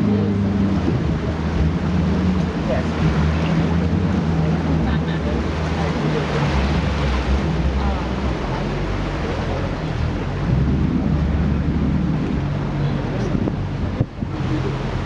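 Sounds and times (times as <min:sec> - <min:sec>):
boat motor humming: 0:00.0 - 0:15.0
rushing water: 0:00.0 - 0:15.0
wind buffeting microphone: 0:00.0 - 0:15.0.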